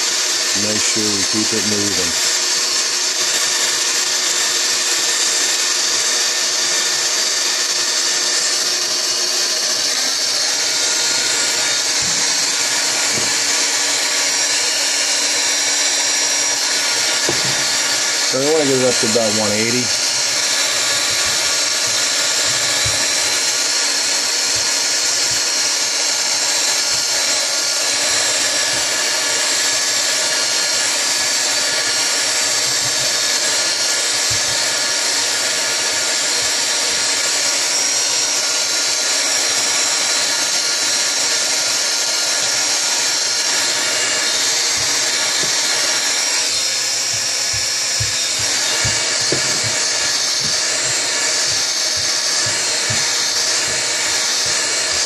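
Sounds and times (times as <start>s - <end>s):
heat gun fan whine and hiss: 0.0s - 55.0s.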